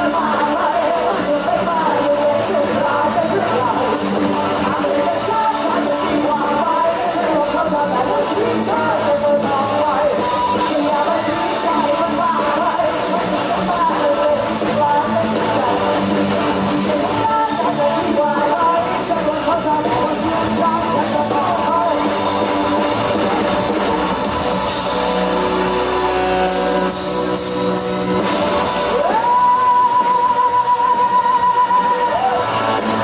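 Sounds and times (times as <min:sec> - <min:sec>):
man singing: 0:00.0 - 0:23.6, 0:28.8 - 0:33.0
drum kit: 0:00.0 - 0:33.0
electric guitar: 0:00.0 - 0:33.0
live pop-rock band playing: 0:00.0 - 0:33.0.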